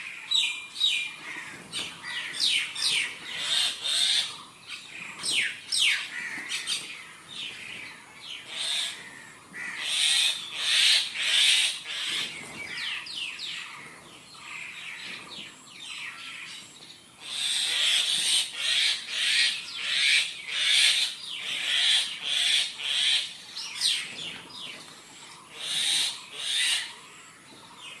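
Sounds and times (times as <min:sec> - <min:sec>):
birds chirping: 0:00.0 - 0:28.0
harsh squawky bird calls: 0:00.0 - 0:28.0.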